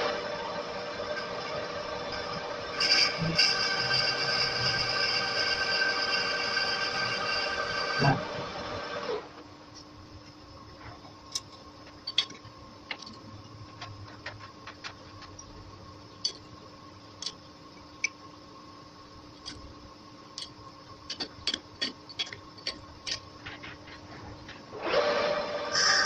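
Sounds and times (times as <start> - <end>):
faint steady hum: 0.0 - 24.8.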